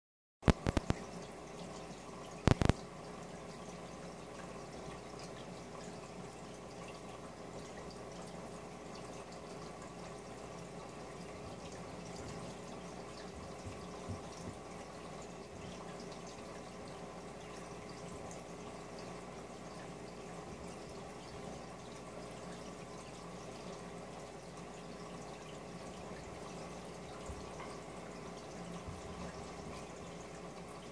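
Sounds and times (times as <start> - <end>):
low steady hum: 0.4 - 30.9
water dripping at surface: 0.4 - 30.9
aquarium air bubbling: 0.5 - 30.9.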